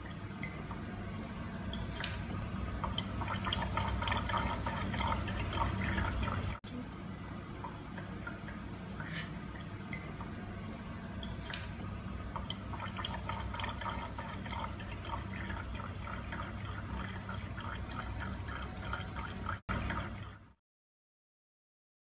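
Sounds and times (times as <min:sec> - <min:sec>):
cat lapping water: 0:00.0 - 0:20.6
water dripping: 0:00.0 - 0:20.6.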